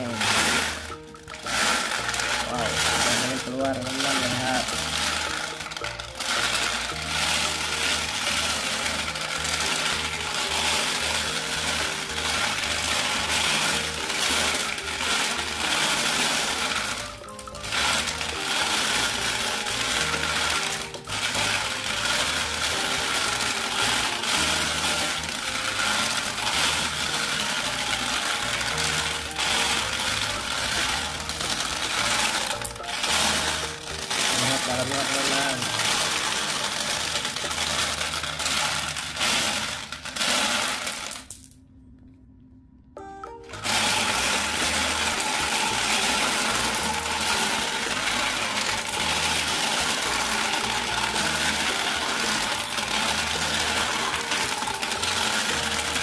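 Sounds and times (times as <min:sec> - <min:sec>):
glass marbles rattling in plastic: 0:00.0 - 0:41.6, 0:43.5 - 0:56.0.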